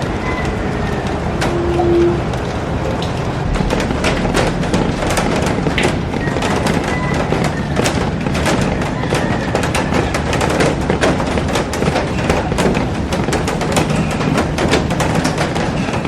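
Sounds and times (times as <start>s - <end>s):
heavy rain falling: 0.0s - 16.0s
raindrops striking glass: 0.0s - 16.0s.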